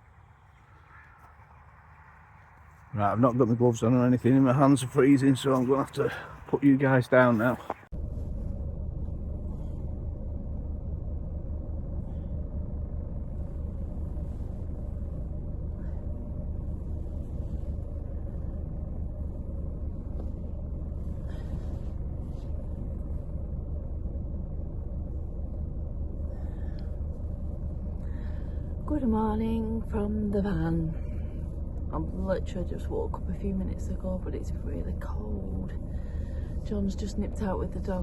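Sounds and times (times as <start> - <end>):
van engine idling: 0.0 - 38.0.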